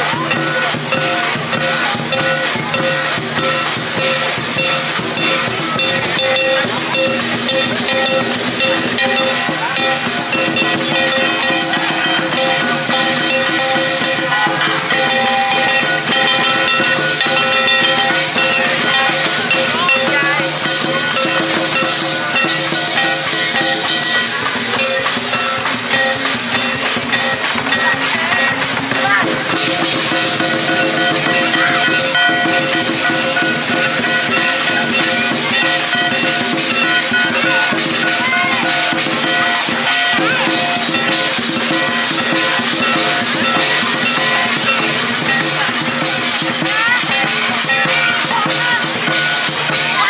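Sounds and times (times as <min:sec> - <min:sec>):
drum gong and cymbals playing fast: 0:00.0 - 0:50.0
melodic tune over percussion beat: 0:00.0 - 0:50.0.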